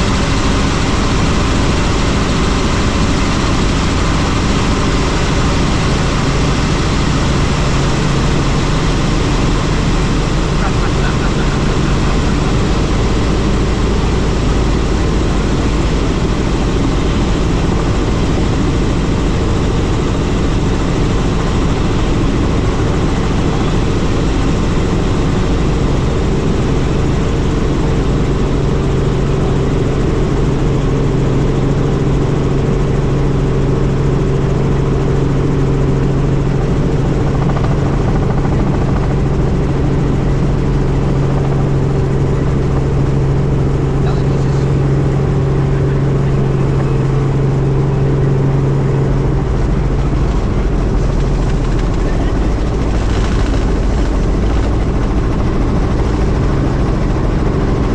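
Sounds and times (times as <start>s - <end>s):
helicopter engine and rotor: 0.0s - 57.9s
low hum: 0.0s - 57.9s.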